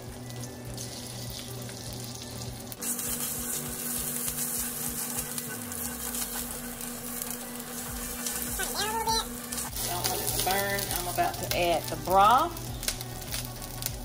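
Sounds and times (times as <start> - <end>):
tomato paste sizzling: 0.0 - 14.0.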